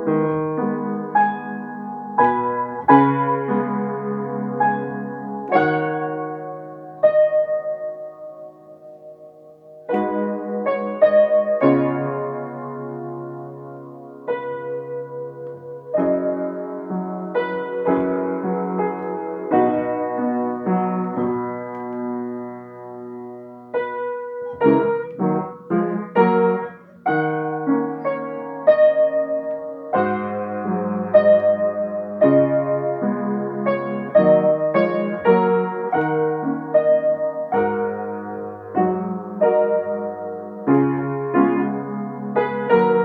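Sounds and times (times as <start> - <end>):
solo piano melody: 0.0 - 43.0.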